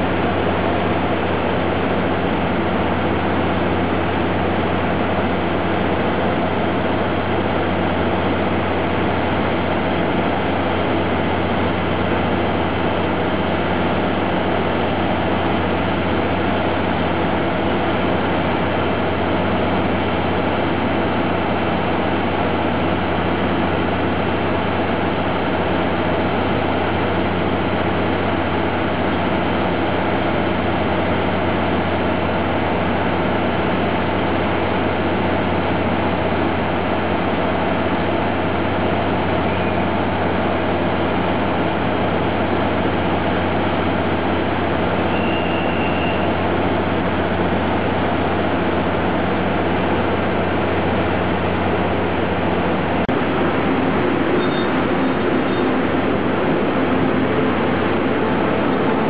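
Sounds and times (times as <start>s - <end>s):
diesel train engines idling: 0.0s - 59.0s.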